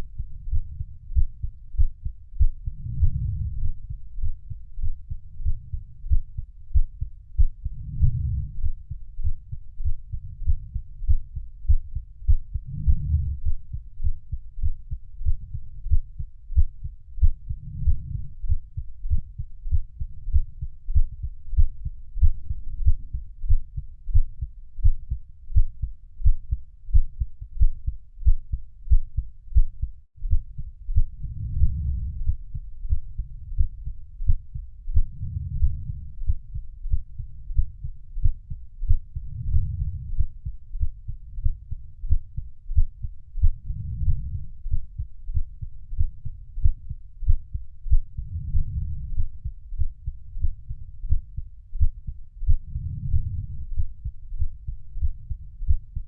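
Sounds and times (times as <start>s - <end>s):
deep heartbeat: 0.0s - 56.0s.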